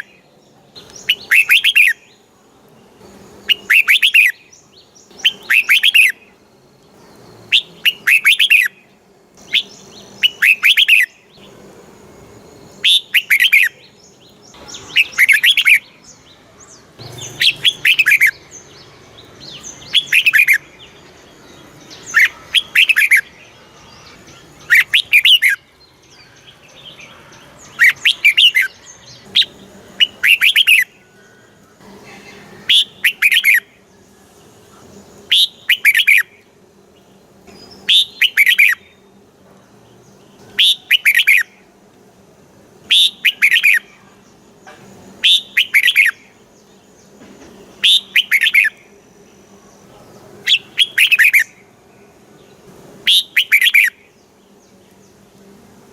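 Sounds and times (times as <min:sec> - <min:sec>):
bulbul singing warbled phrases: 0:00.0 - 0:41.8, 0:42.4 - 0:55.4.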